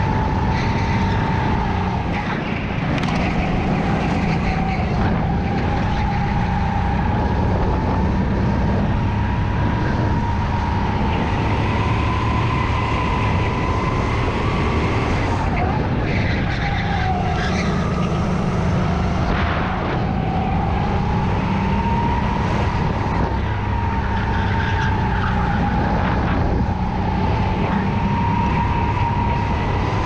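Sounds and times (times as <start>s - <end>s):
go-kart engine whining: 0.0s - 30.0s
rumble and wind noise: 0.0s - 30.0s.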